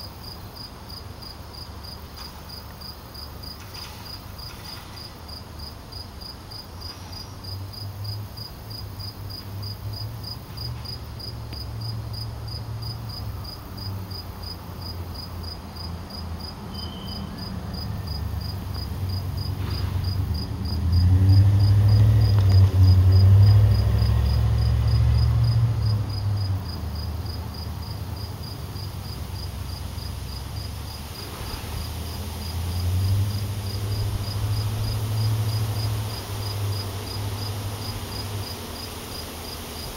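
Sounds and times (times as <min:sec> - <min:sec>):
cricket chirping: 0:00.0 - 0:39.9
high insect trill: 0:00.0 - 0:39.9.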